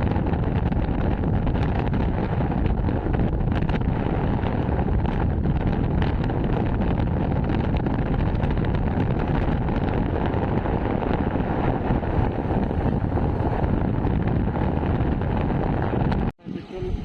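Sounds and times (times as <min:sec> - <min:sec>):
road noise: 0:00.0 - 0:17.0
wind rush over microphone: 0:00.0 - 0:17.0.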